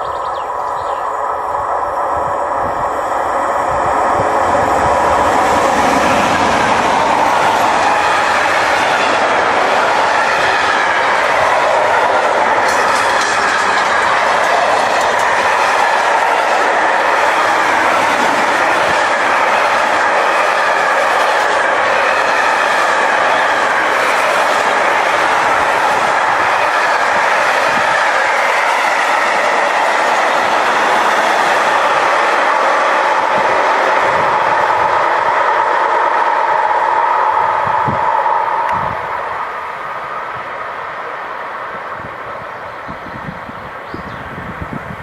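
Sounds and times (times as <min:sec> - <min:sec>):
train wheels rushing on rails: 0:00.0 - 0:45.0.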